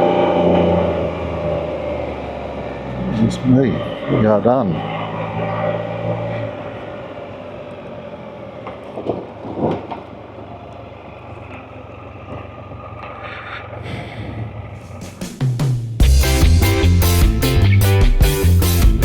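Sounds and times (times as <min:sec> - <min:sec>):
outdoor background noise: 0:00.0 - 0:16.0
vehicle engine idling: 0:00.0 - 0:19.0.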